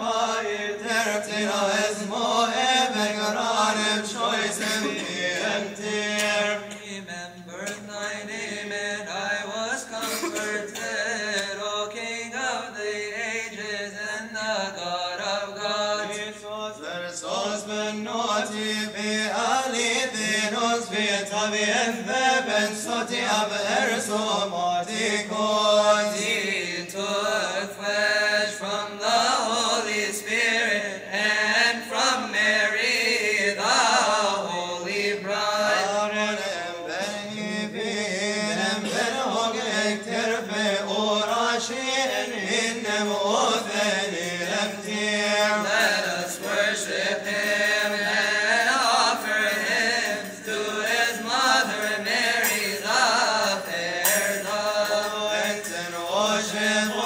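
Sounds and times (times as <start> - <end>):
person chanting a hymn: 0.0 - 57.0.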